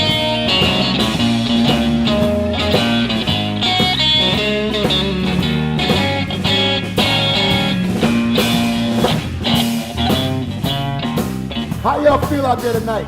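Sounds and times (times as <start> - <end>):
bass guitar: 0.0 - 13.0
drum kit: 0.0 - 13.0
electric guitar: 0.0 - 13.0.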